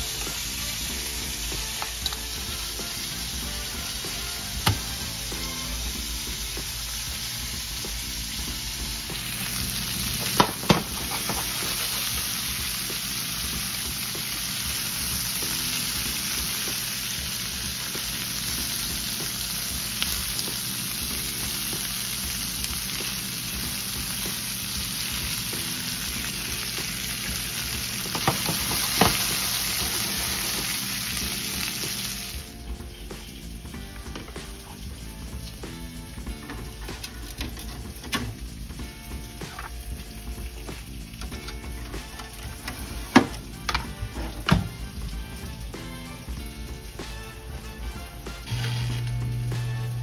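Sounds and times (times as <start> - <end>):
asparagus sizzling in a frying pan: 0.0 - 50.0.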